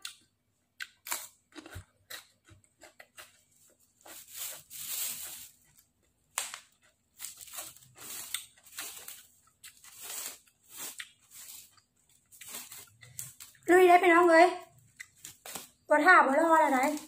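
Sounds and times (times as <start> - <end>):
person chewing crunchy food: 0.0 - 13.7, 14.6 - 15.9.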